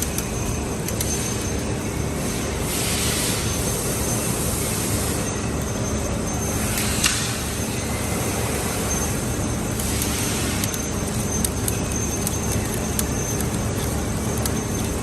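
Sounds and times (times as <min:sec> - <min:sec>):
steady machine drone: 0:00.0 - 0:15.0.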